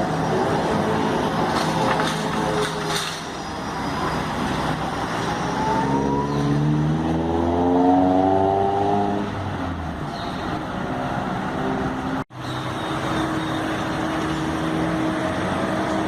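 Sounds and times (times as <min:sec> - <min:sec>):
trolleybus drive drone rising: 0:00.0 - 0:16.0.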